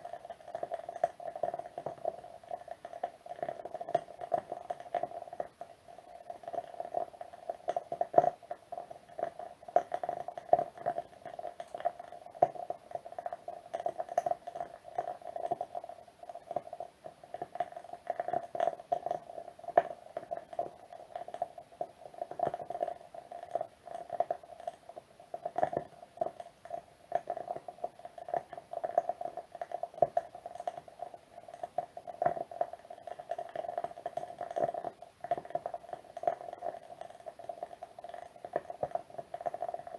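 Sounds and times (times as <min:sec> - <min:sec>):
wood wick candle crackling: 0:00.0 - 0:39.9.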